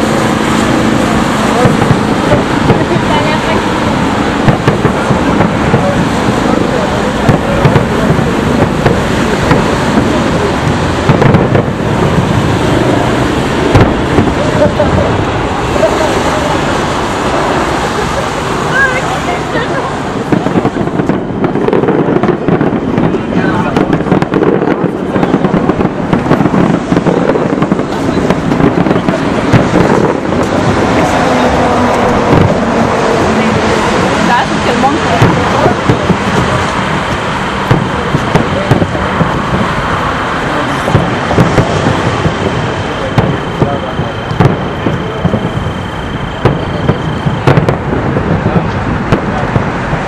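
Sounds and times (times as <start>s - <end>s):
fireworks booming: 0.0s - 50.0s
sharp firework bangs: 0.0s - 50.0s.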